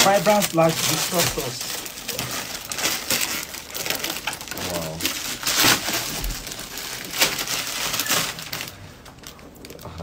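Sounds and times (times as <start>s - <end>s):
gift wrapping crinkling: 0.0s - 10.0s.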